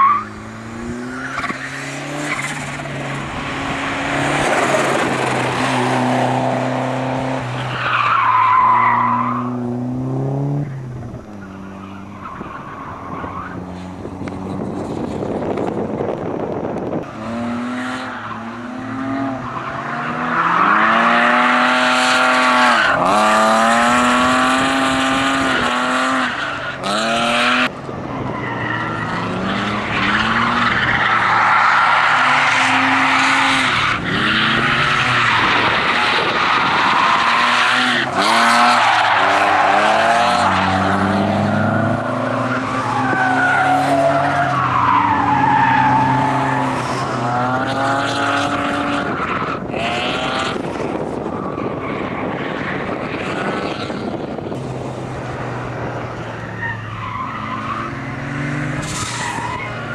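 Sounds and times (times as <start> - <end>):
car engine revving: 0.0 - 51.3.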